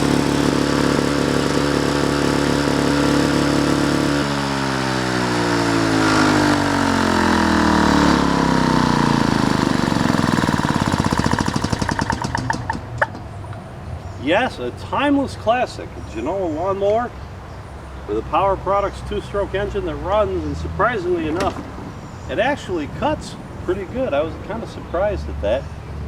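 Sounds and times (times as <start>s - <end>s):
lawnmower engine running: 0.0s - 13.8s, 18.0s - 25.4s.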